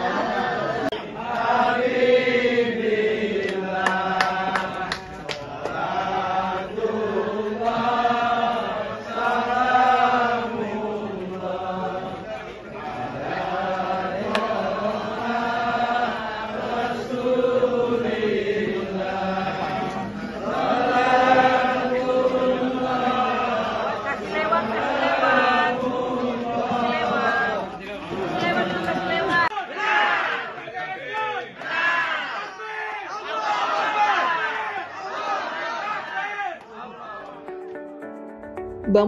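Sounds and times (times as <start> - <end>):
crowd chanting in unison: 0.0 - 37.4.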